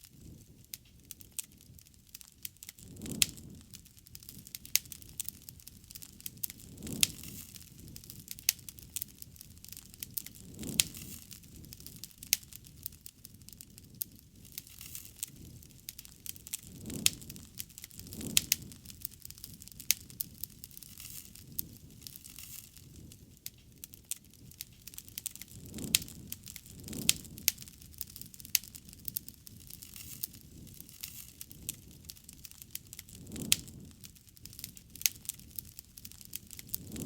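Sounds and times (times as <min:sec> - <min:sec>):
low soft swells of fire: 0:00.0 - 0:37.0
wood crackling and popping: 0:00.0 - 0:37.0.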